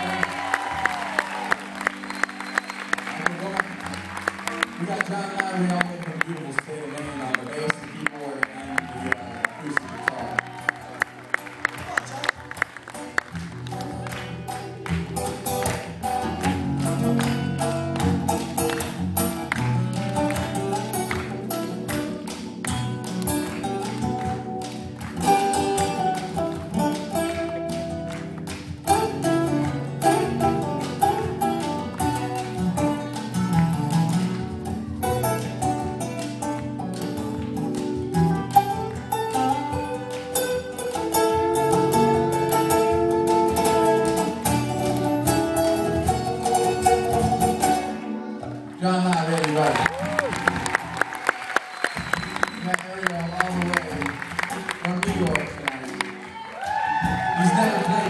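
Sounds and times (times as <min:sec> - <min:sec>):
plucked guitar: 0:00.0 - 0:51.0
live band playing: 0:00.0 - 0:58.0.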